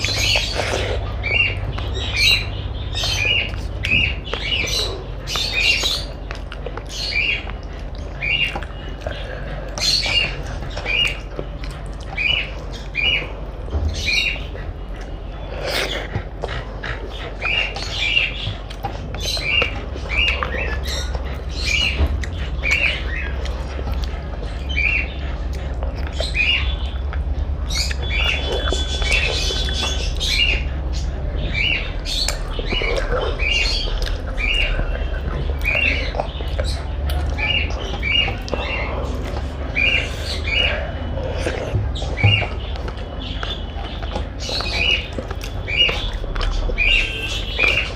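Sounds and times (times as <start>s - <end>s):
bird chirping: 0.0s - 47.9s
steady low hum: 0.0s - 47.9s.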